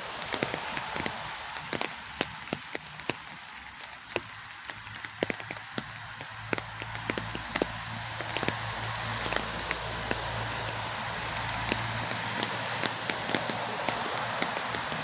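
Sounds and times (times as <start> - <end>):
raindrops tapping on a surface: 0.0 - 15.0
steady hiss of rain: 0.0 - 15.0.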